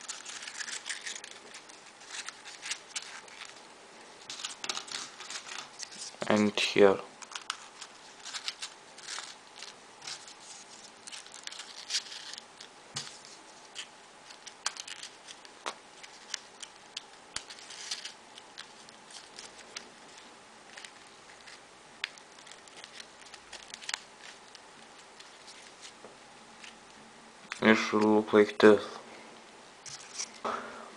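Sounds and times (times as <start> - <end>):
paper rustling: 0.0 - 3.6, 4.2 - 6.5, 7.2 - 26.0, 29.8 - 30.4.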